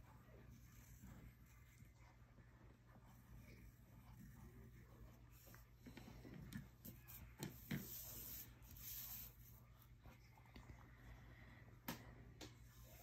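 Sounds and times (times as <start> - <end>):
pencil scratching on paper: 0.0 - 10.8.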